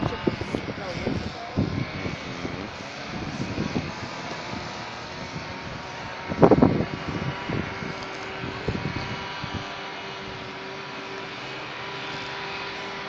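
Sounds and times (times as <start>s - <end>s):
distant city traffic: 0.0s - 13.0s
wind: 0.0s - 13.0s.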